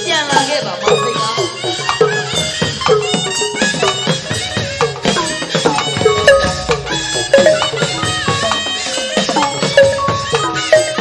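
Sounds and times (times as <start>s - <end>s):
pitched drum circle notes: 0.0s - 11.0s
sharp clacking percussion: 0.0s - 11.0s.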